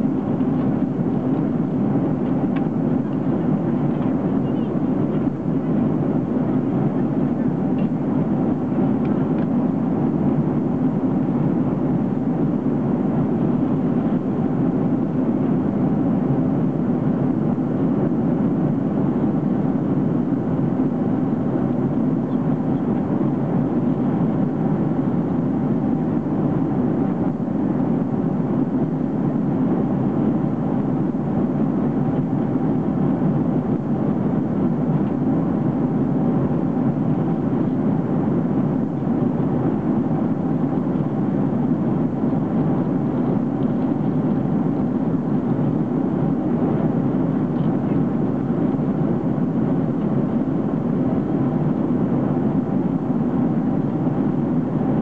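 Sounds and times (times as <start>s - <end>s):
airliner cabin noise: 0.0s - 55.0s.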